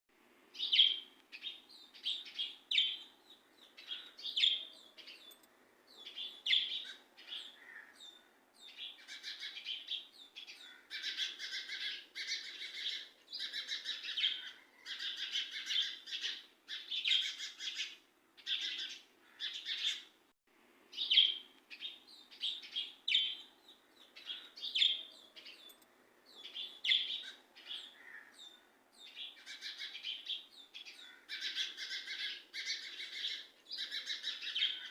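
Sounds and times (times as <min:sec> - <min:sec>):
small birds chirping: 0:00.5 - 0:20.3, 0:20.9 - 0:34.9.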